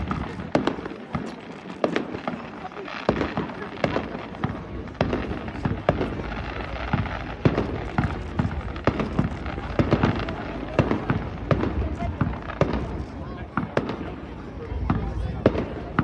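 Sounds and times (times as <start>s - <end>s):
fireworks bangs and cracks: 0.0s - 16.0s.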